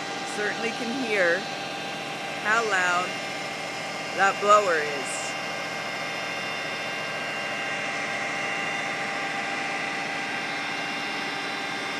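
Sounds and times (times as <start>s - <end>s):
blower running with whine: 0.0s - 11.9s.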